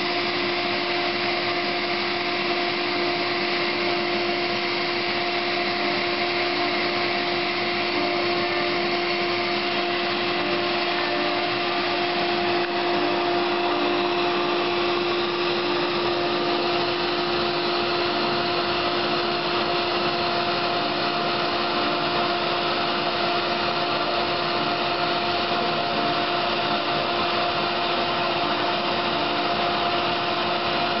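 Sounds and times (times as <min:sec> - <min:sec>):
router spindle humming: 0:00.0 - 0:31.0
vacuum drawing air: 0:00.0 - 0:31.0.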